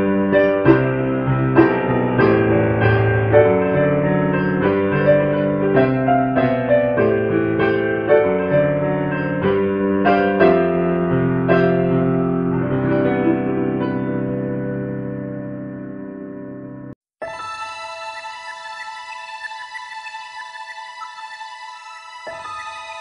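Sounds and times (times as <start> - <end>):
calm piano music: 0.0 - 23.0.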